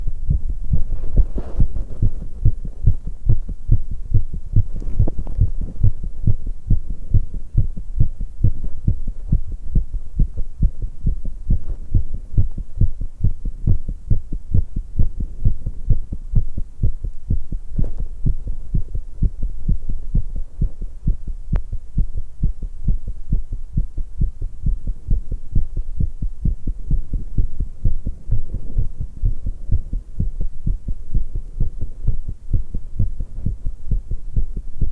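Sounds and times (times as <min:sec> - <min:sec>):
heart pounding: 0:00.0 - 0:34.9.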